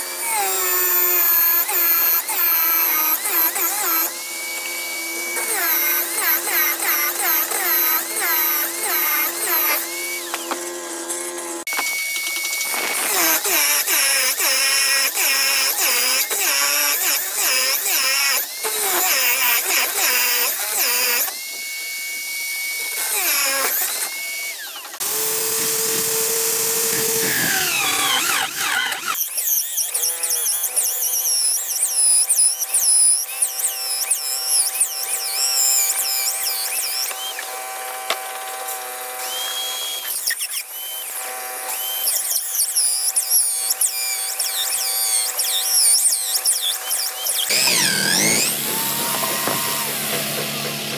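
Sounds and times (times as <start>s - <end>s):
drill press boring wood: 0.0s - 50.9s.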